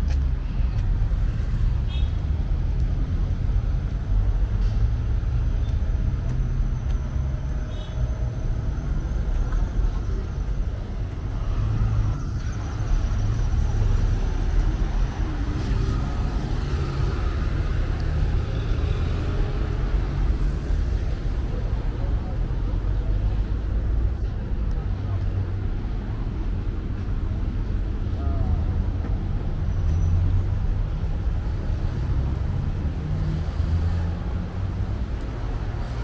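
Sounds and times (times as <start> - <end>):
cars driving past: 0.0 - 36.0.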